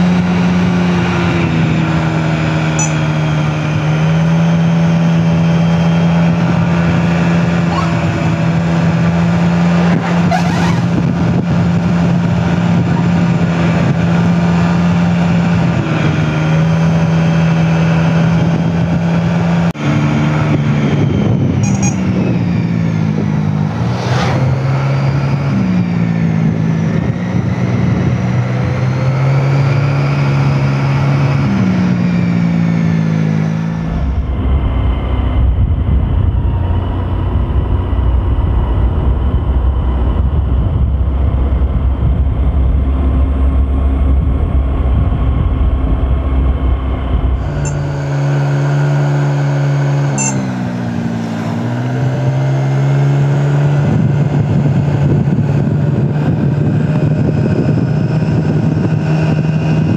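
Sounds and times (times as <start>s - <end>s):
low road rumble: 0.0s - 59.9s
vehicle engine running: 0.0s - 59.9s.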